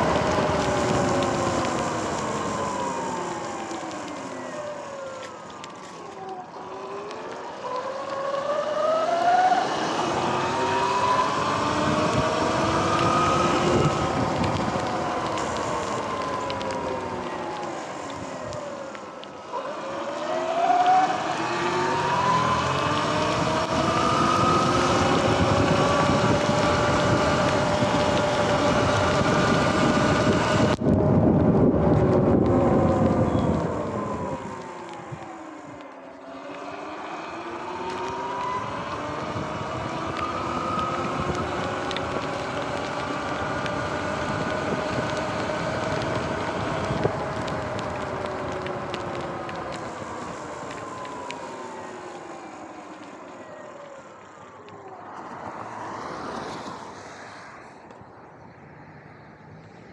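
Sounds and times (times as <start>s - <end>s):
wind and tyres on wet road: 0.0s - 59.9s.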